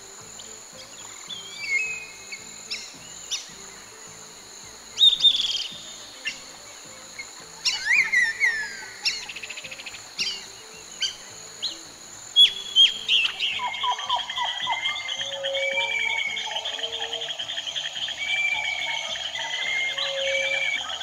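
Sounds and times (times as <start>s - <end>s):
birds chirping and whistling: 0.0s - 21.0s
high insect drone: 0.0s - 21.0s.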